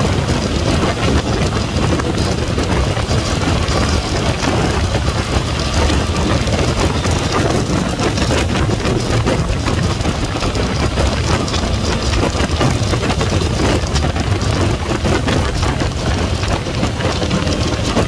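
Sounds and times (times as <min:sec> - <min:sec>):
motorcycle engine cruising: 0:00.0 - 0:18.0
wind rushing over microphone: 0:00.0 - 0:18.0.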